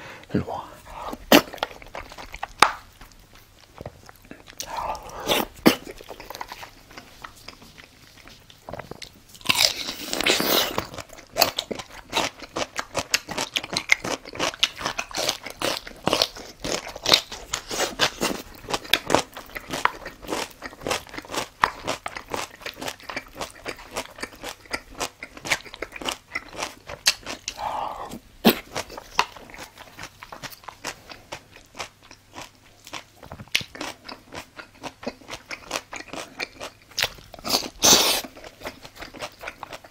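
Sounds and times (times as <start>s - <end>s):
person chewing food: 0.4s - 39.9s.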